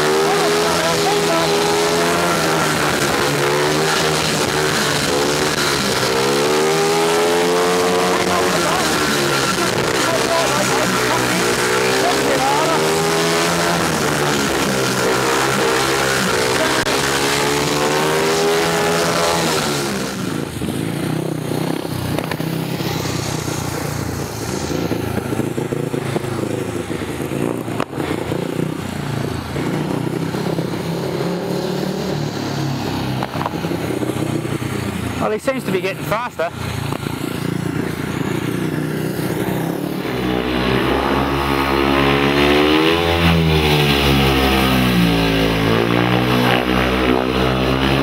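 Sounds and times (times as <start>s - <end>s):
motorbike engine revving: 0.0s - 48.0s.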